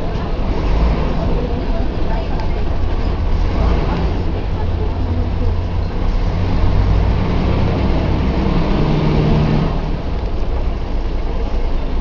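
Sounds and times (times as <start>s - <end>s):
bus diesel engine under load: 0.0s - 12.0s.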